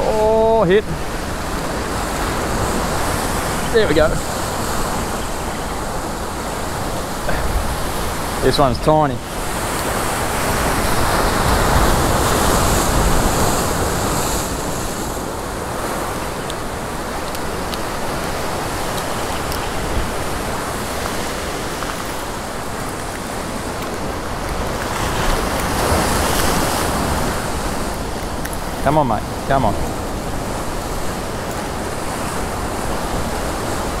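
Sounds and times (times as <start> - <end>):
surf breaking against rocks: 0.0 - 34.0
wind buffeting microphone: 0.0 - 34.0.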